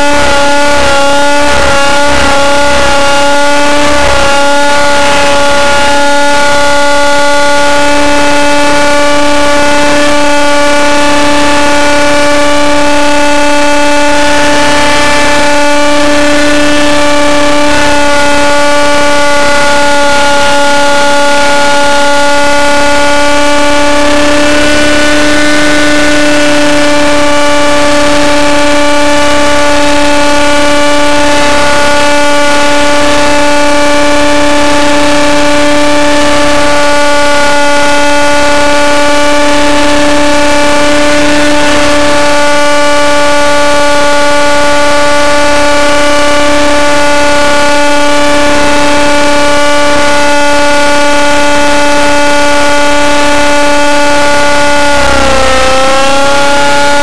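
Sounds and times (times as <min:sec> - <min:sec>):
model helicopter engine whining: 0:00.0 - 0:57.0.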